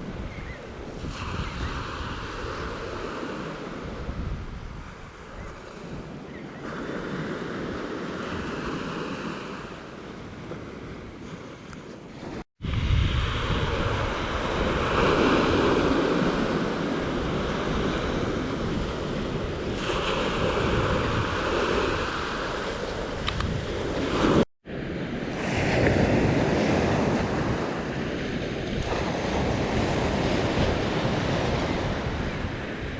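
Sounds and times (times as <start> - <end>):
waves crashing on beach: 0.0 - 32.9.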